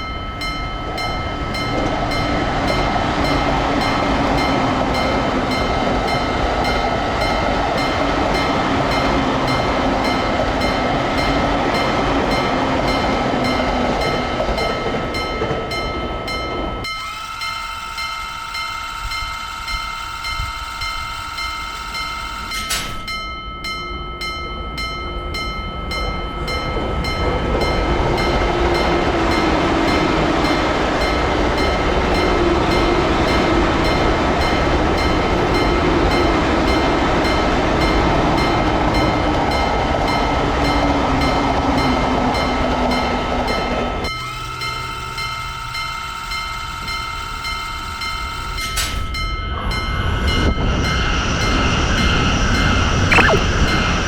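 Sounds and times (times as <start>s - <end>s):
train rumble: 0.0s - 44.2s
railroad crossing bell ringing: 0.0s - 53.0s.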